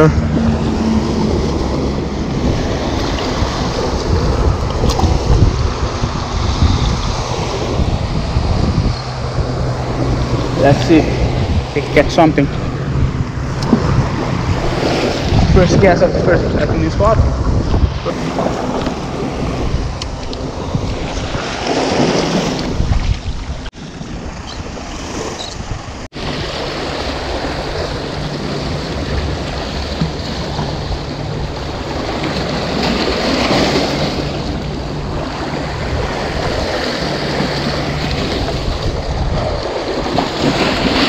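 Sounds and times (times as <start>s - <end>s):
waves washing against rocks: 0.0s - 41.0s
wind buffeting microphone: 0.0s - 41.0s.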